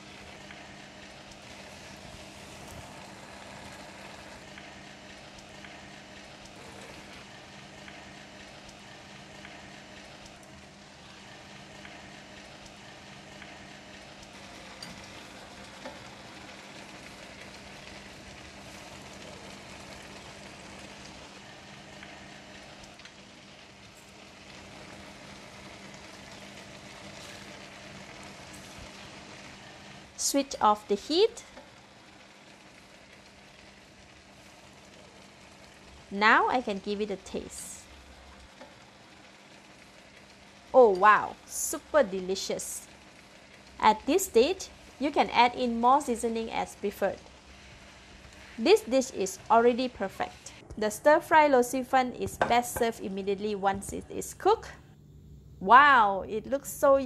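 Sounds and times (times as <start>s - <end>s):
food sizzling in a wok: 0.0s - 54.7s.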